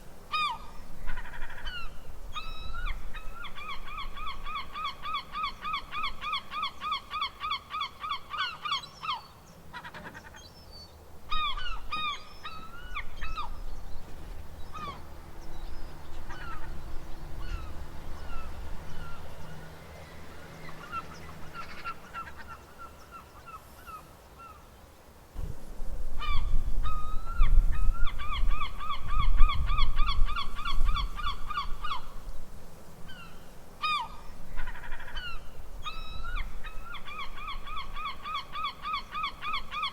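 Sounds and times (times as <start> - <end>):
gulls calling: 0.2 - 24.7, 26.2 - 32.2, 33.1 - 39.9.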